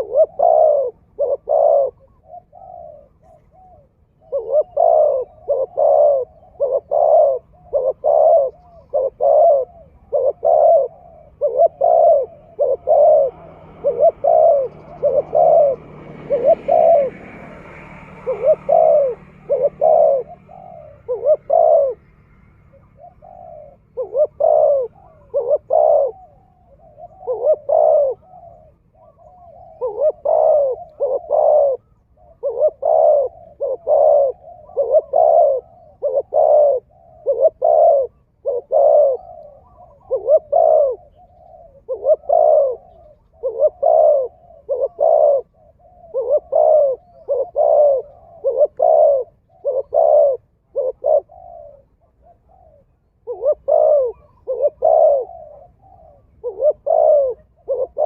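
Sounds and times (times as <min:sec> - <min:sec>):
bird hooting: 0:00.0 - 0:58.0.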